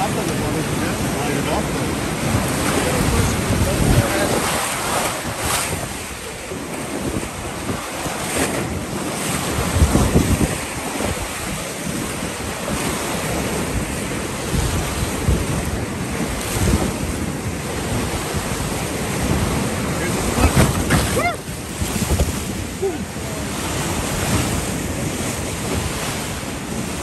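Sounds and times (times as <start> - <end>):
boat hull thumping on waves: 0.0 - 27.0
whitewater rapids rushing: 0.0 - 27.0
wind buffeting microphone: 0.0 - 27.0.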